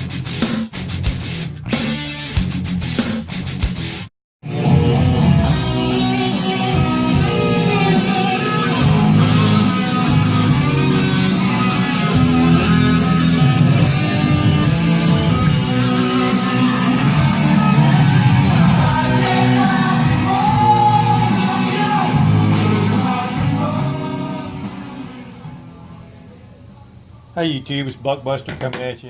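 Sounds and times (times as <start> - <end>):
guitar rock music: 0.0 - 26.5.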